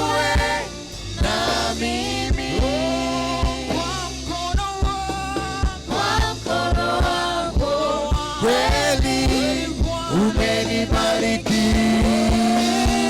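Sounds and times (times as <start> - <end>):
bass: 0.0 - 13.0
steady drum beat: 0.0 - 13.0
voices singing gospel melody: 0.0 - 13.0.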